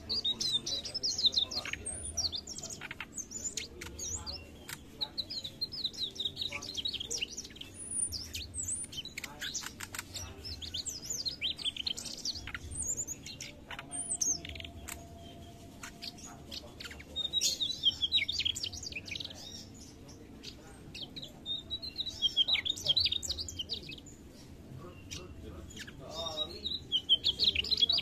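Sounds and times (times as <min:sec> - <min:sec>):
bird singing high twittering notes: 0:00.0 - 0:24.1.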